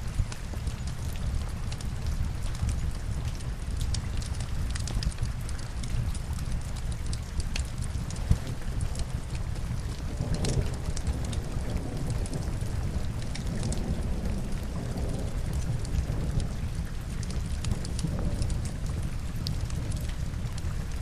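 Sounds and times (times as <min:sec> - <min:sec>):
log fire crackling: 0:00.0 - 0:21.0
steady rain: 0:00.0 - 0:21.0.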